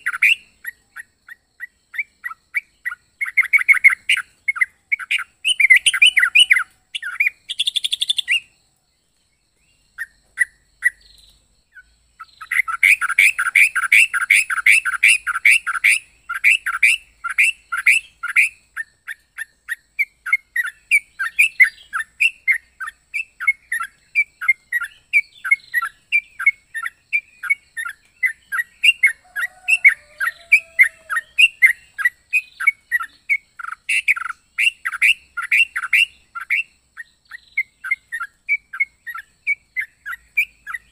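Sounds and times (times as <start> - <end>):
bulbul chirping: 0.0 - 8.6, 9.8 - 40.9.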